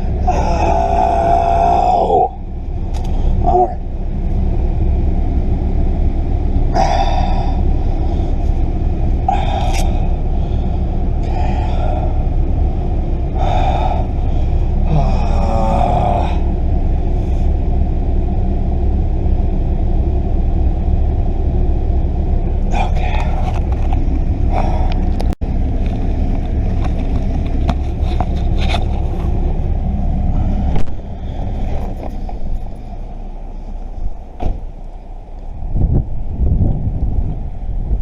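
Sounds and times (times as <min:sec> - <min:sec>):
vehicle engine rumbling: 0:00.0 - 0:38.0.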